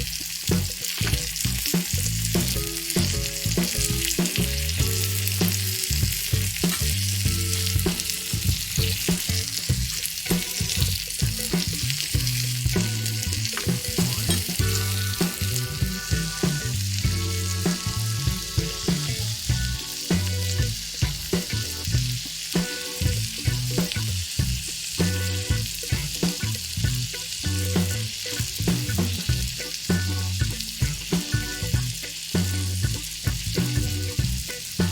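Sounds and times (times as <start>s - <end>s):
oil sizzling in a frying pan: 0.0s - 34.9s.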